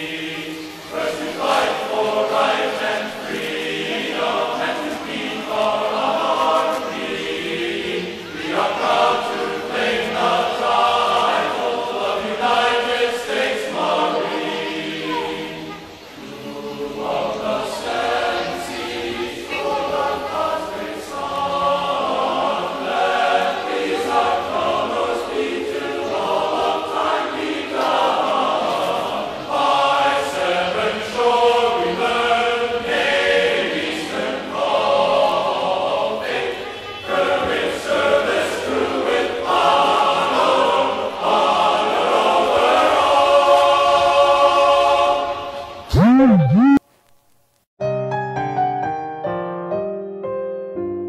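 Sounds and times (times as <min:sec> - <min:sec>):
choir singing: 0:00.0 - 0:46.0.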